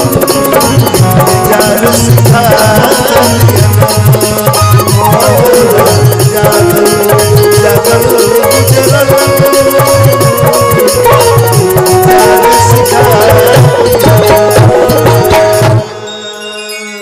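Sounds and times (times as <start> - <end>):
hand drum rhythm: 0.0 - 15.8
metallic ticking percussion: 0.0 - 16.1
harmonium melody: 0.0 - 17.0.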